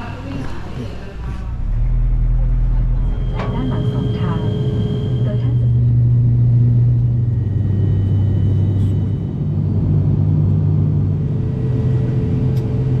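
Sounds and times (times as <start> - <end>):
turboprop engines low hum: 0.7 - 13.0
faint high engine whine: 1.1 - 13.0.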